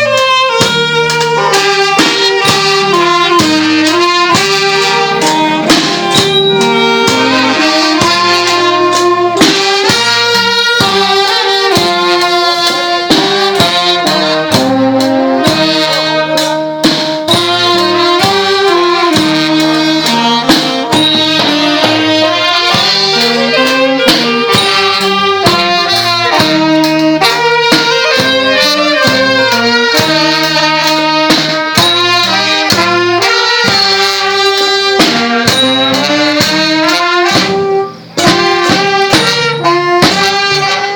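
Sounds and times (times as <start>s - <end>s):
brass band playing: 0.0s - 40.9s
drum beat: 0.0s - 40.9s.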